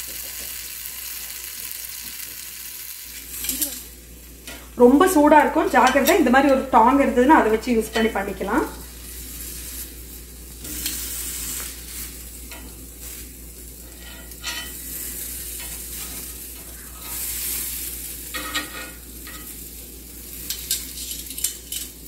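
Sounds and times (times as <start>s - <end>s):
vegetables sizzling on grill pan: 0.0s - 22.0s.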